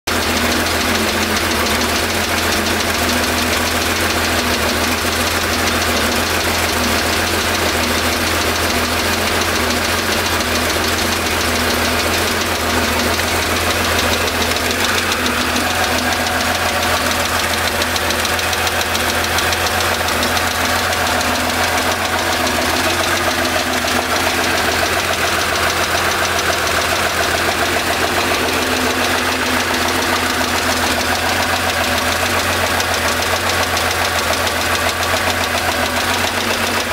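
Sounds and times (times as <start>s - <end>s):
car engine idling: 0.0s - 36.9s
engine knocking: 0.0s - 36.9s.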